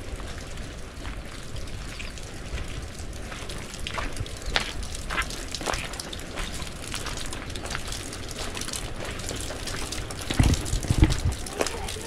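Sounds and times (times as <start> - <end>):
footsteps on muddy dirt path: 0.0 - 12.0
low outdoor rumble: 0.0 - 12.0.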